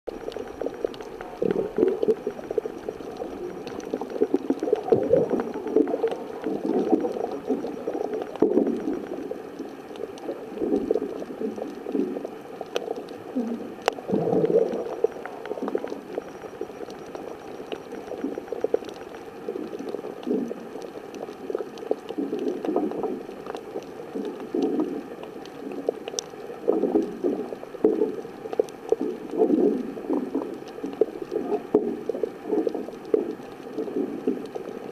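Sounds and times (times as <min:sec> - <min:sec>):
muffled underwater gurgling: 0:00.1 - 0:34.9.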